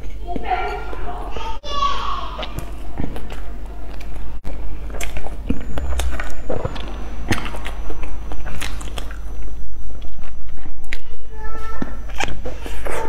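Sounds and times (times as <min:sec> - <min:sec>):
steady low hum: 0:00.0 - 0:13.0
bread and cake chewed: 0:02.2 - 0:13.0.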